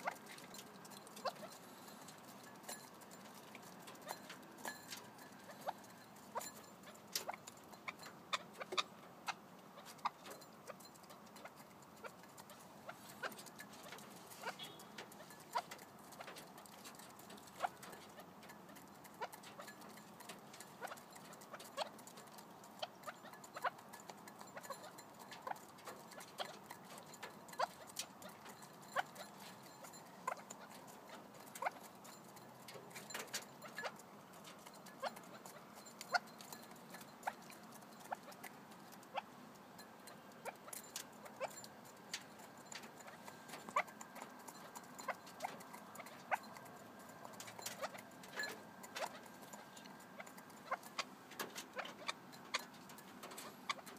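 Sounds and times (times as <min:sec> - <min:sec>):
beaks tapping on bowl: 0:00.0 - 0:53.9.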